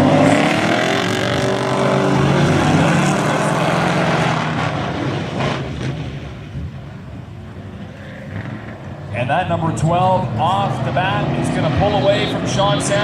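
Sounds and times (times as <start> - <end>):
race truck engines at high revs: 0.0 - 13.0.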